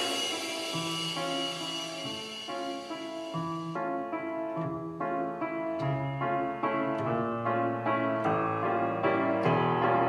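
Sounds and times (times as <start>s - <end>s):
piano-led dance music: 0.0s - 10.0s.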